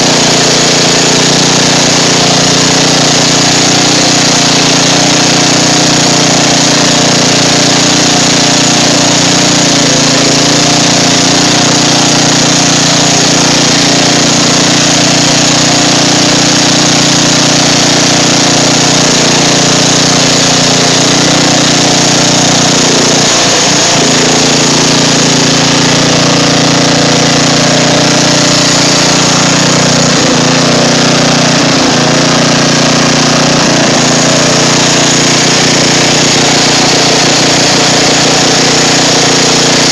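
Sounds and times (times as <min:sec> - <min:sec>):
riding lawn mower engine: 0:00.0 - 0:39.9
water splashing: 0:00.0 - 0:39.9.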